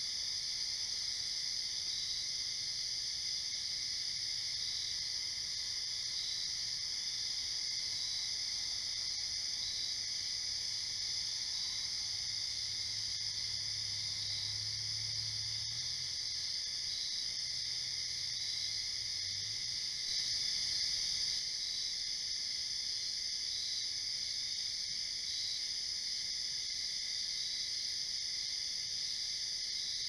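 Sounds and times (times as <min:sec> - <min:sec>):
night insects chirping: 0:00.0 - 0:30.0.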